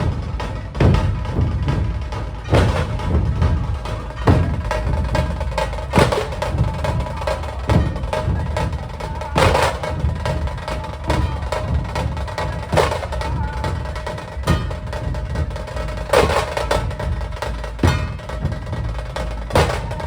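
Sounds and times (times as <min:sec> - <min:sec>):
fast drumming over heavy drum beats: 0:00.0 - 0:20.0.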